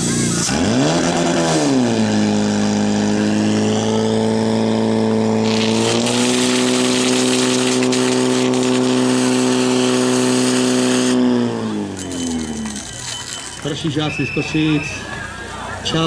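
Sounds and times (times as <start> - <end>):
fire pump engine running hard: 0.0 - 16.0.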